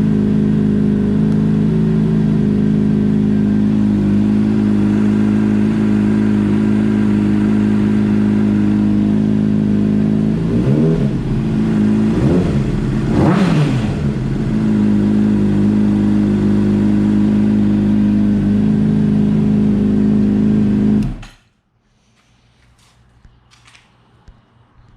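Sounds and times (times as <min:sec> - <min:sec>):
motorcycle engine idling and revving: 0:00.0 - 0:21.3.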